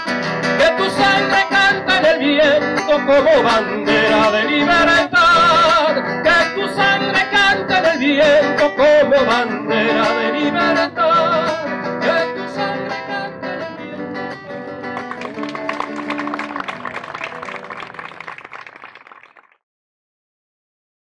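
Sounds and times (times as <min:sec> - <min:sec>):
acoustic guitar strumming: 0:00.0 - 0:18.2.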